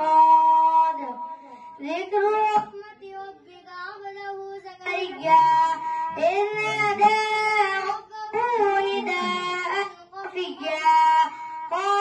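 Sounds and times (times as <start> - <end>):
boy reciting melodically: 0.0 - 12.0.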